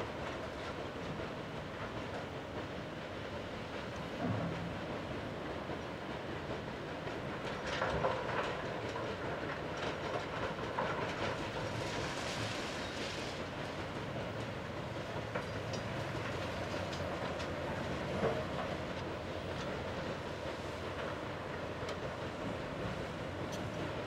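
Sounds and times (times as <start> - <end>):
excavator diesel engines: 0.0 - 24.0.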